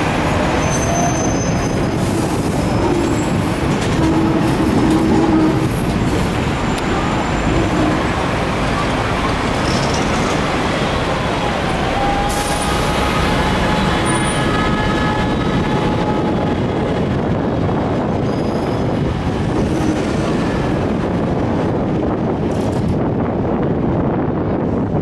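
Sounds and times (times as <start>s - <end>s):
road traffic: 0.0s - 25.0s
tram running on track: 0.0s - 25.0s.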